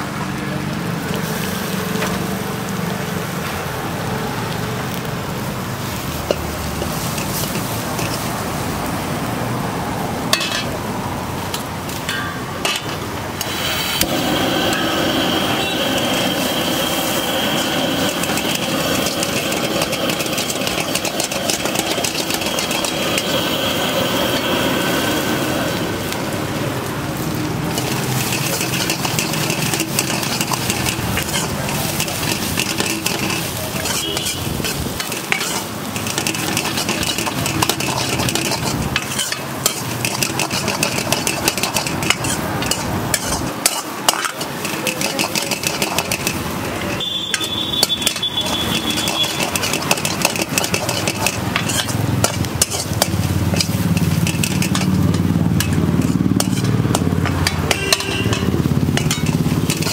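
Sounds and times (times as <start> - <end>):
vegetables sizzling: 0.0 - 59.9
ladle scraping a wok: 5.8 - 8.6, 12.0 - 26.5, 27.2 - 59.9.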